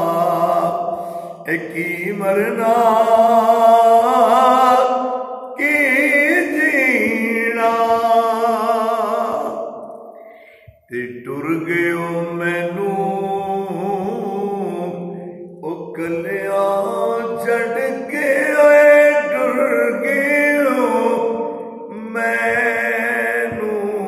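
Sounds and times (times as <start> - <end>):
man chanting with vibrato: 0.0 - 10.1, 10.9 - 24.0.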